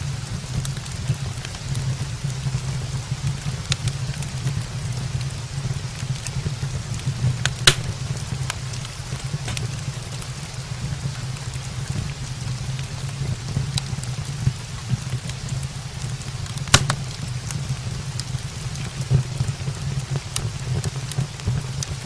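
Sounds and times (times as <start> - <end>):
rain on roof: 0.0 - 22.0
wood fire crackling: 0.1 - 22.0.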